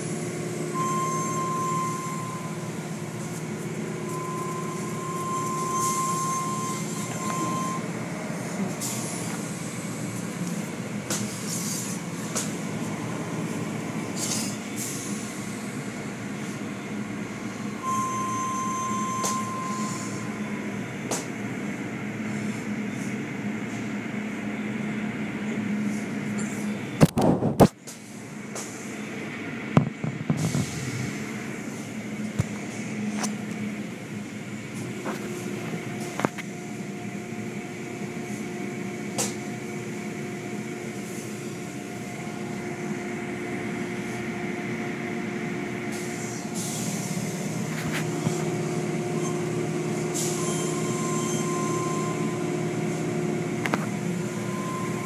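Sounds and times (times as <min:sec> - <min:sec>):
car wash machinery hum: 0:00.0 - 0:26.2, 0:28.0 - 0:55.0.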